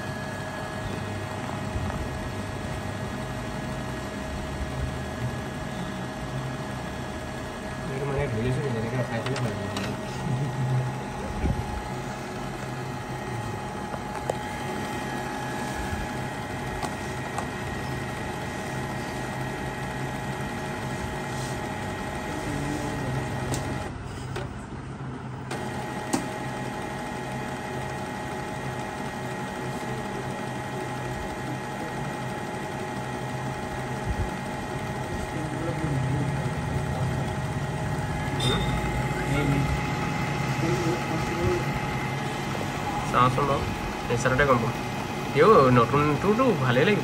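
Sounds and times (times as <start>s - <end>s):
printer motors and pump whirring: 0.0s - 47.0s.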